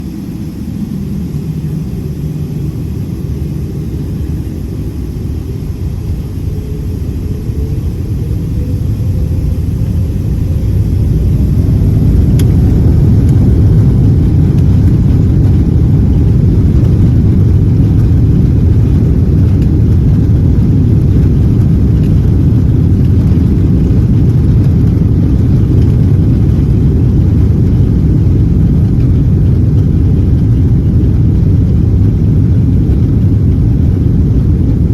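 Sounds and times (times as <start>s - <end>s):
jet engines spooling up: 0.0s - 34.9s.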